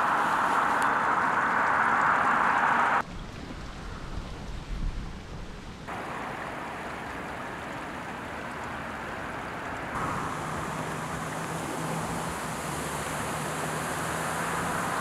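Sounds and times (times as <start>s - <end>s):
shallow water rushing: 0.0s - 15.0s.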